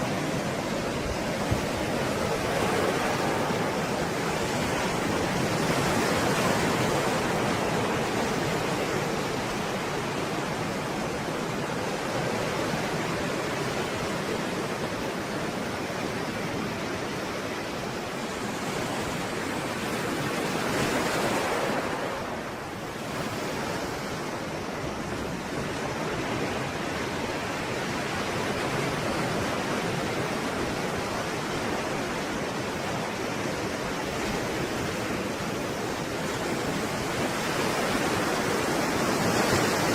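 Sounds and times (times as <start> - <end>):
stormy sea waves: 0.0 - 39.9.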